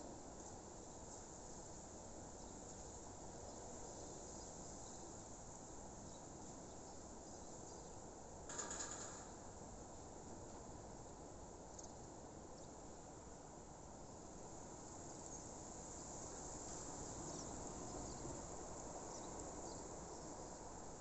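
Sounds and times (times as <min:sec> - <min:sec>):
low background hiss: 0:00.0 - 0:21.0.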